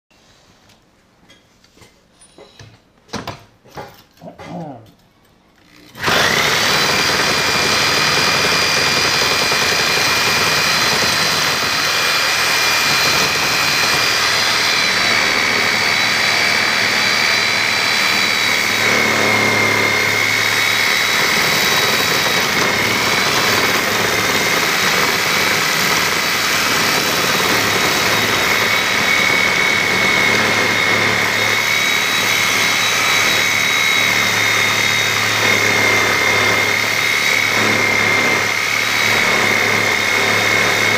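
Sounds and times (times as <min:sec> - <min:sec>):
reciprocating saw cutting concrete: 0:05.9 - 0:40.9.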